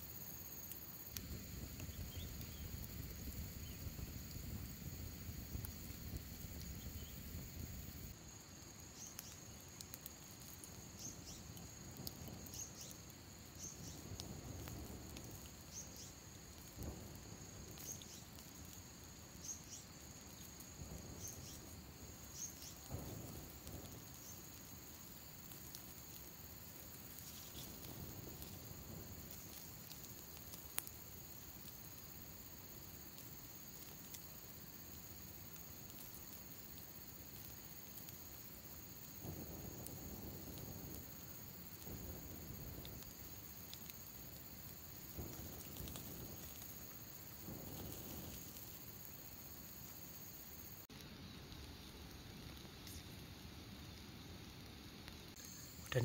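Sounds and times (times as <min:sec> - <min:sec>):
campfire crackling and popping: 0:00.0 - 0:56.0
insects trilling: 0:00.0 - 0:56.0.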